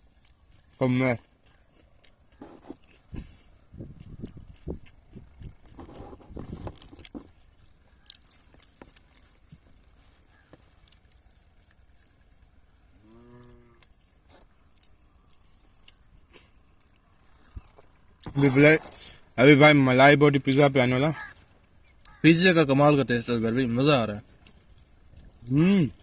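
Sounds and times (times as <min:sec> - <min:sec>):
chewing and biting food: 0:00.0 - 0:19.4, 0:22.8 - 0:26.0.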